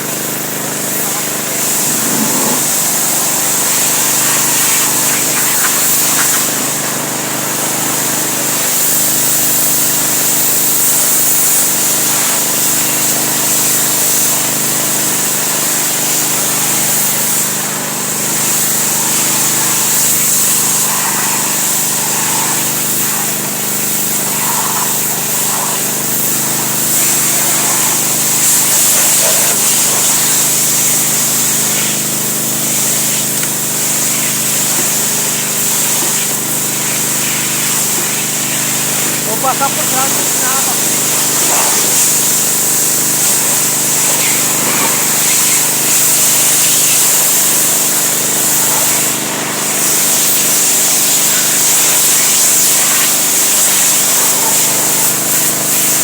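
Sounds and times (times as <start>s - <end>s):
pressure washer running: 0.0s - 56.0s.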